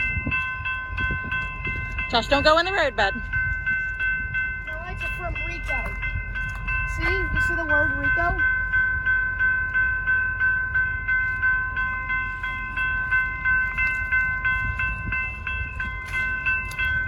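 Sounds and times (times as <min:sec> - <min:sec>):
railroad crossing bell ringing: 0:00.0 - 0:17.0
train rumbling: 0:00.0 - 0:17.0.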